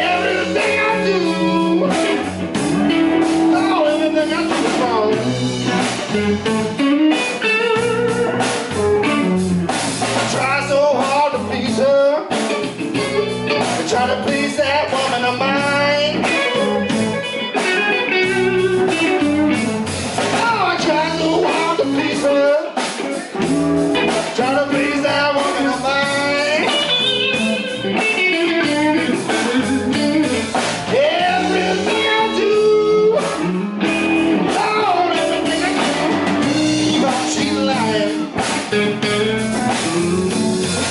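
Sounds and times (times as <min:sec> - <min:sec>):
drum kit: 0:00.0 - 0:40.9
electric bass: 0:00.0 - 0:40.9
electric guitar lead: 0:00.0 - 0:40.9.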